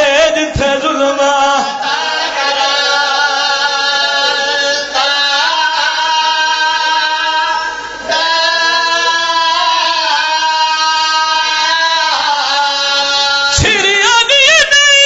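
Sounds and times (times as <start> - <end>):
man singing lament: 0.0 - 15.0.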